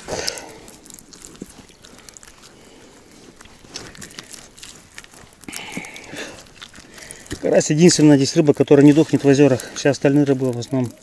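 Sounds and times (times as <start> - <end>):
wet net rustling and clicking: 0.0 - 11.0.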